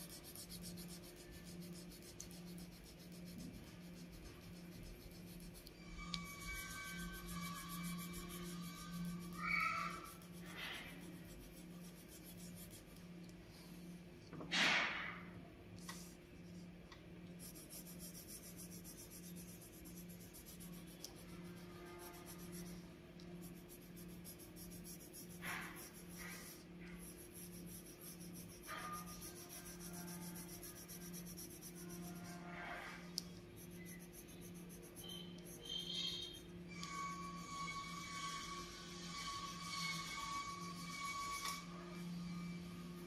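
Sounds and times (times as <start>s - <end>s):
pencil scratching on paper: 0.0s - 13.1s, 17.3s - 43.0s
faint low hum: 0.0s - 14.5s, 15.2s - 43.0s.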